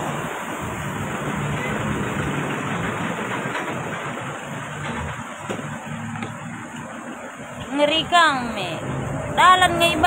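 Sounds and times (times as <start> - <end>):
broad rushing noise: 0.0 - 10.0.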